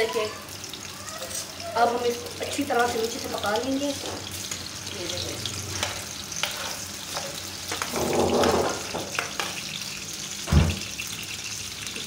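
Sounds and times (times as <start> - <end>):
sausages sizzling in a pan: 0.0 - 12.0.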